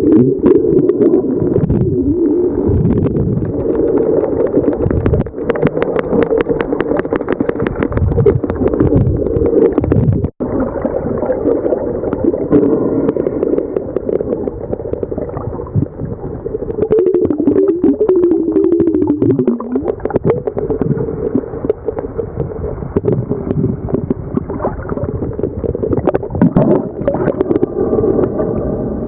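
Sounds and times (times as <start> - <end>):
underwater rumble and hiss: 0.0 - 29.0
whale clicks underwater: 0.2 - 29.0.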